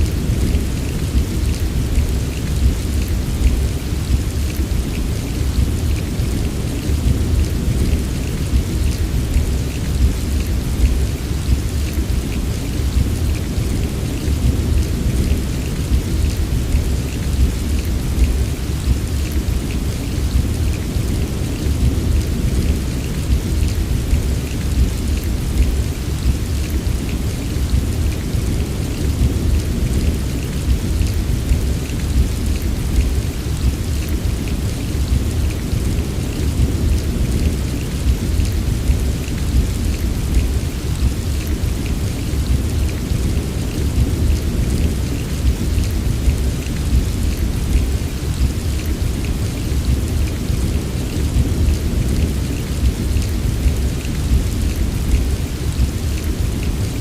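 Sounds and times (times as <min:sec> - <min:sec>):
continuous low rumble: 0:00.0 - 0:57.0
heavy rain falling: 0:00.0 - 0:57.0.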